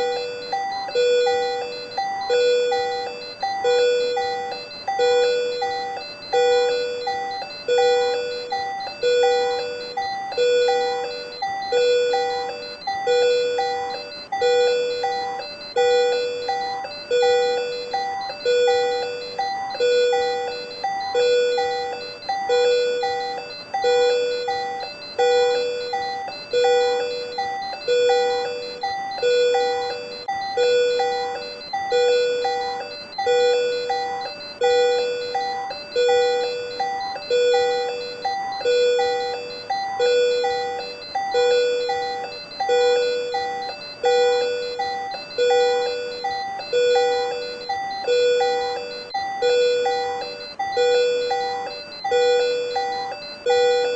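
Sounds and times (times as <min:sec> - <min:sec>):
patient monitor chiming alarm: 0:00.0 - 0:53.9.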